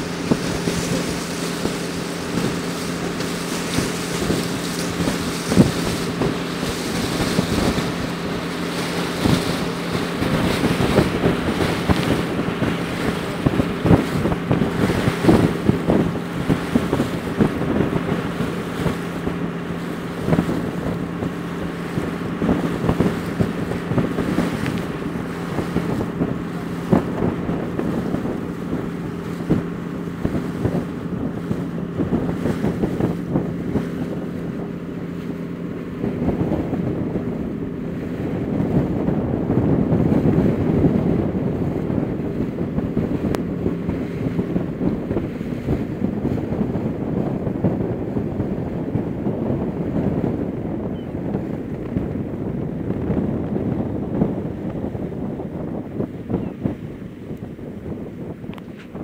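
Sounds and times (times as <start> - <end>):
boat engine droning: 0.0 - 59.0
wind buffeting microphone: 0.0 - 59.0.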